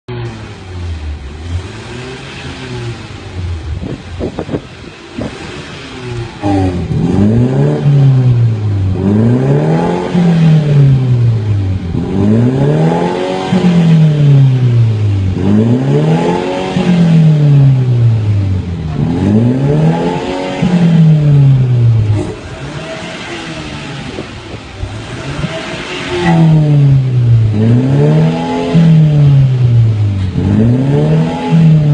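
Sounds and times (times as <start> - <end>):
car engine revving: 0.1 - 31.9.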